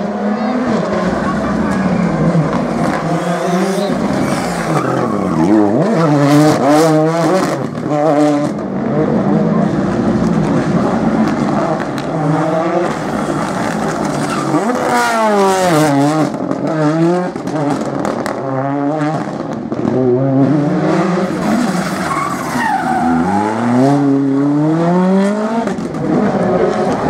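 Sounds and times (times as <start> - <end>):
rally car engines revving: 0.0 - 27.0.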